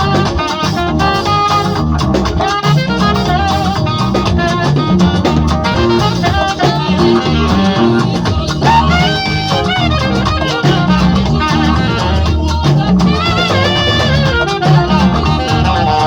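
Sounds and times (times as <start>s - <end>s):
loud music with bass line: 0.0s - 16.0s.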